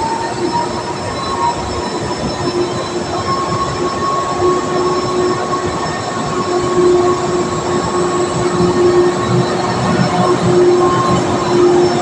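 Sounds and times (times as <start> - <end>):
mechanical whine: 0.0 - 12.0.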